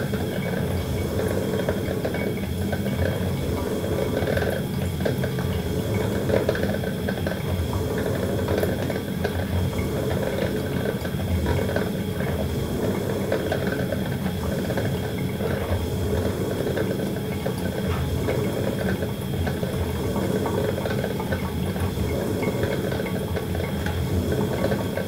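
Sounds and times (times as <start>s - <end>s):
hot water bubbling: 0.0s - 25.0s.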